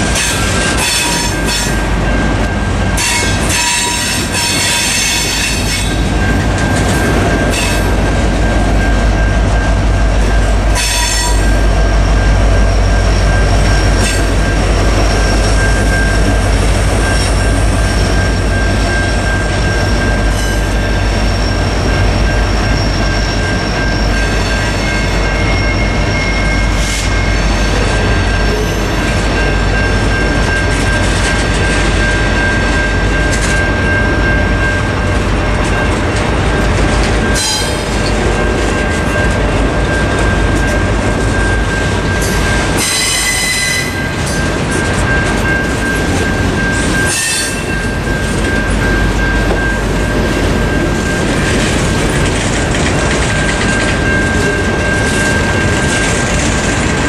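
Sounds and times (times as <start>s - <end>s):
crossing bell ringing: 0.0s - 57.0s
freight train wheels rumbling: 0.0s - 57.0s.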